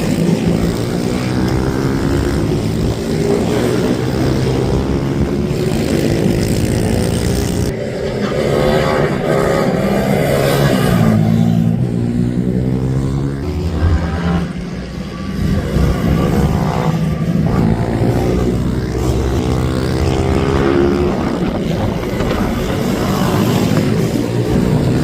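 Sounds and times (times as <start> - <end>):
minibike engines revving and passing: 0.0 - 25.0.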